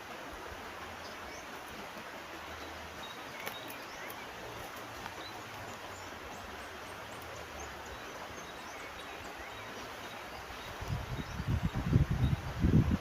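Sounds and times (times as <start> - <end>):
flowing river water: 0.0 - 13.0
small birds chirping: 0.8 - 13.0.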